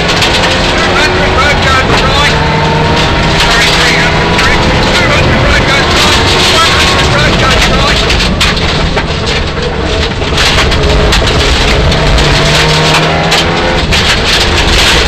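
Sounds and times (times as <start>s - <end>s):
car engine revving: 0.0s - 15.0s
road and tyre noise: 0.0s - 15.0s.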